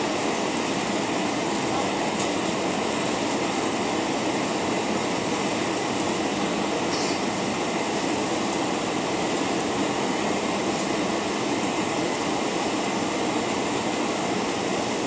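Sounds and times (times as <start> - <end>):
jet cabin engine noise: 0.0 - 15.0.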